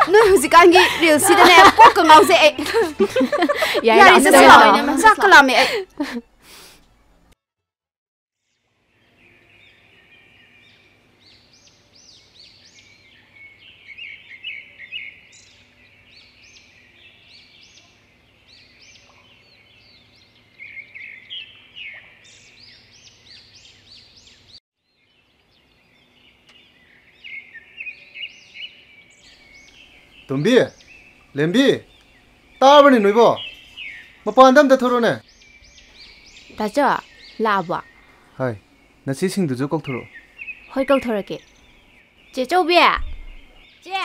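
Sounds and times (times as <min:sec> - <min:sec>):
birds chirping: 0:00.0 - 0:07.4, 0:08.4 - 0:44.0.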